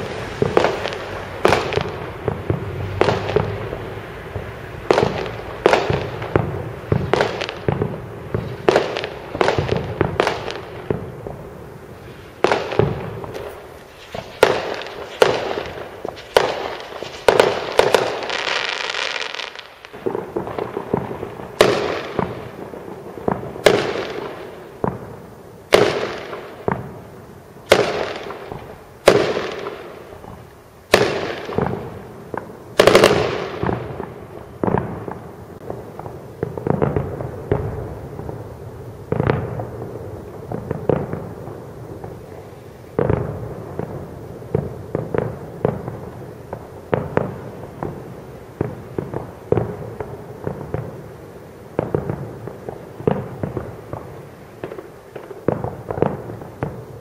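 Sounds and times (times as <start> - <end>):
distant firework bangs echoing: 0.0 - 57.0
steady rushing hiss: 0.0 - 57.0.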